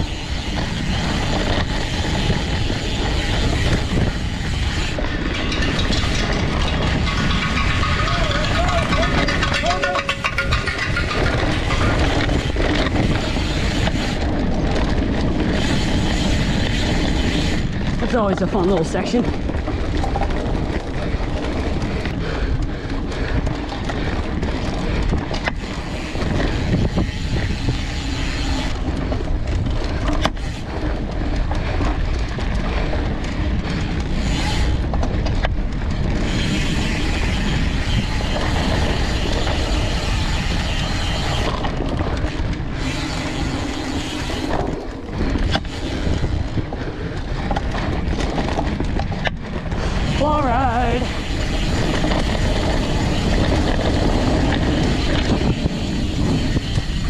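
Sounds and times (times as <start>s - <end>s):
bike knocks and rattles: 0.0s - 57.0s
tyre noise on dirt: 0.0s - 57.0s
wind rush on microphone: 0.0s - 57.0s.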